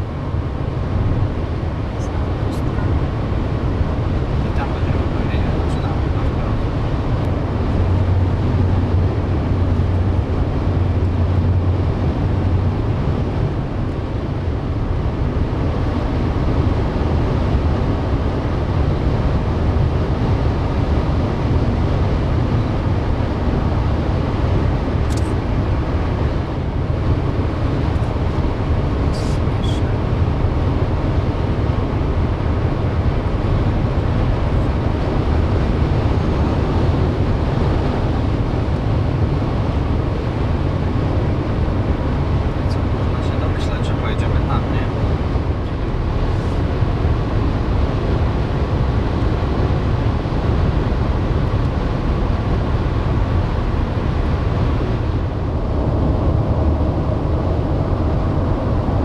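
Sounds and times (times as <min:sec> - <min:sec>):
moving vehicle rumble: 0:00.0 - 0:59.0.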